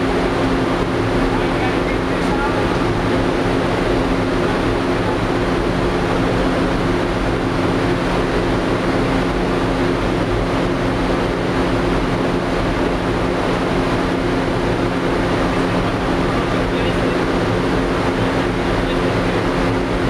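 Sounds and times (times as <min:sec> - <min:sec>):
constant low hum: 0:00.0 - 0:20.0
furnace roaring: 0:00.0 - 0:20.0.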